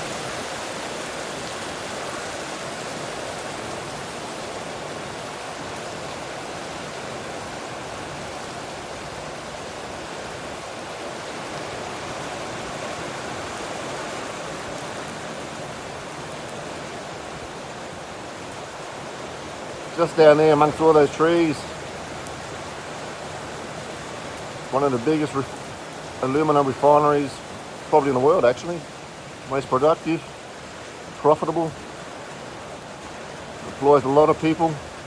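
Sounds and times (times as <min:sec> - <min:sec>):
rain falling steadily: 0:00.0 - 0:35.0.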